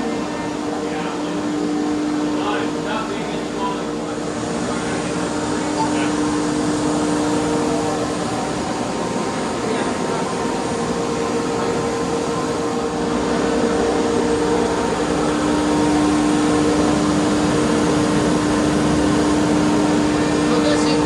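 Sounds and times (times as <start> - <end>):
high steady whine: 0.0 - 21.0.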